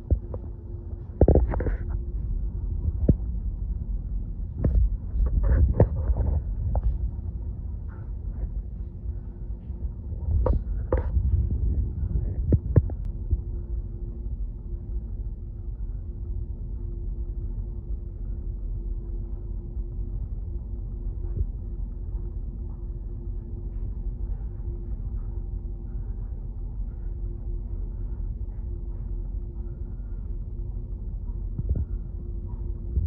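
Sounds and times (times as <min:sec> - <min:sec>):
constant hum: 0:00.0 - 0:33.0
low rumble: 0:00.0 - 0:33.0.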